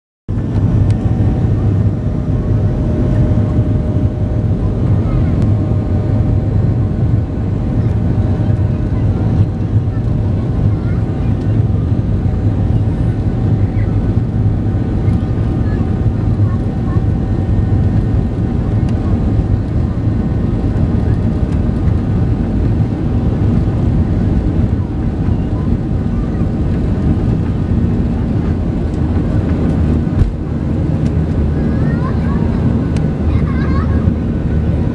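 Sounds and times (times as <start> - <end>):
jet engine rumble: 0.3 - 34.9.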